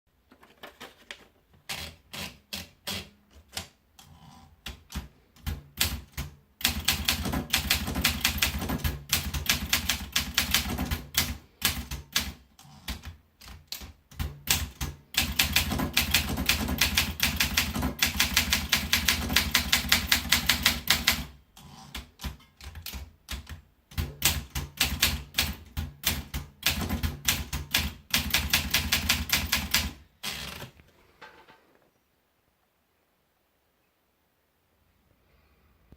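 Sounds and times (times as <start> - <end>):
manual typewriter typing: 0.4 - 30.8.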